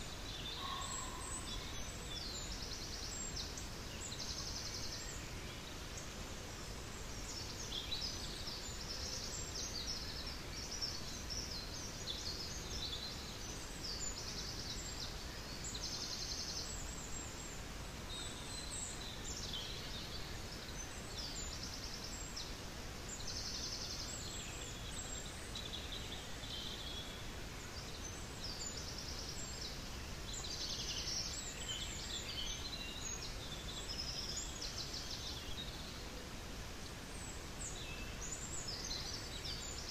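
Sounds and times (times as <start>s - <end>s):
running stream water: 0.0s - 39.9s
small birds chirping: 0.0s - 39.9s.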